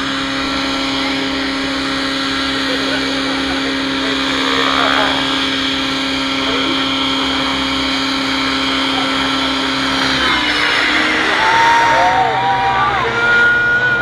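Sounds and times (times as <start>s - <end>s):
model helicopter whining drone: 0.0s - 14.0s.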